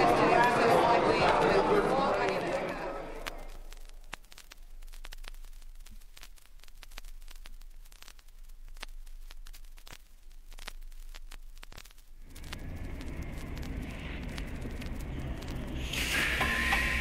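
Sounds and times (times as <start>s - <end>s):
vinyl record hiss: 0.0s - 17.0s
vinyl clicks and pops: 2.1s - 17.0s
low steady hum: 2.9s - 17.0s.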